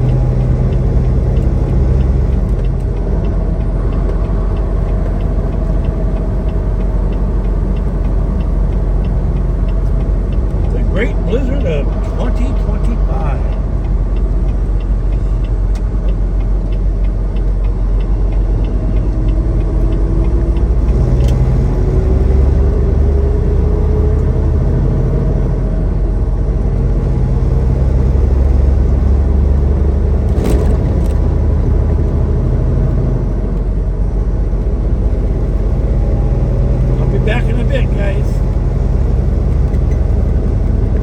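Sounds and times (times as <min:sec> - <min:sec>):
truck engine and road drone: 0:00.0 - 0:41.0.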